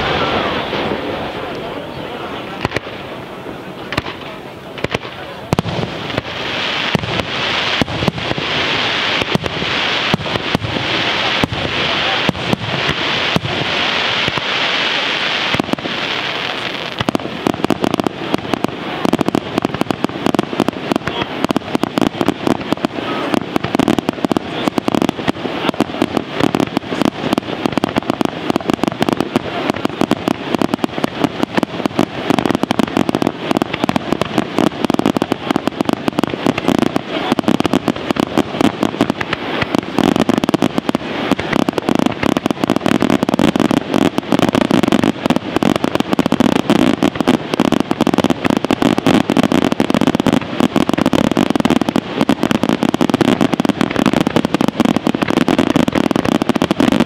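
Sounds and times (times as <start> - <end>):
fireworks bursts and crackling: 0.0 - 57.0.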